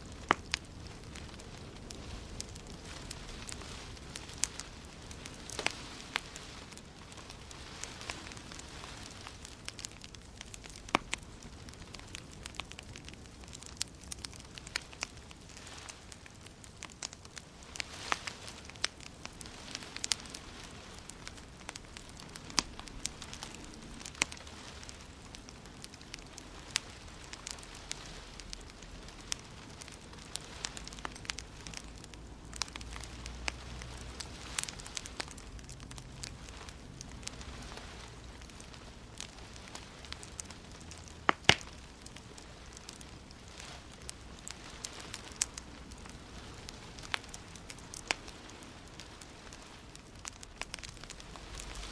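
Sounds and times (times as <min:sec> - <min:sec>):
fire crackling and popping: 0:00.0 - 0:51.9
soft steady hiss: 0:00.0 - 0:51.9.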